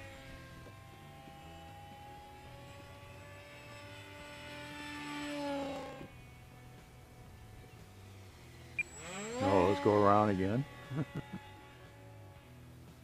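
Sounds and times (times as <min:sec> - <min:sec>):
faint steady drone: 0:00.0 - 0:13.0
model plane motor whining: 0:00.0 - 0:13.0.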